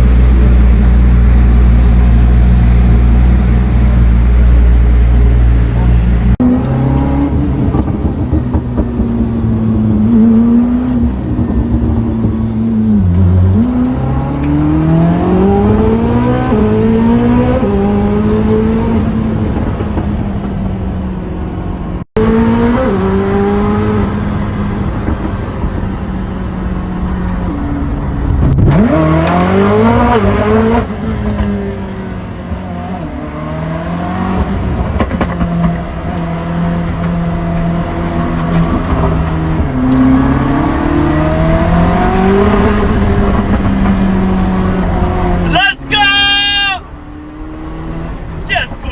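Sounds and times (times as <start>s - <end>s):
car engine accelerating hard: 0.0s - 48.9s.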